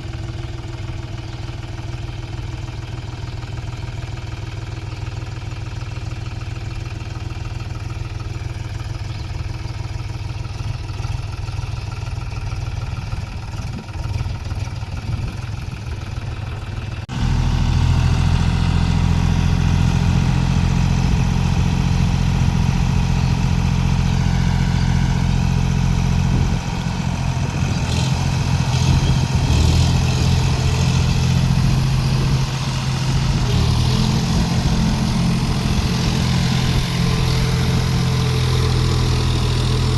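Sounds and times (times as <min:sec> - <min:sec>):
tractor diesel engine humming: 0:00.0 - 0:39.9.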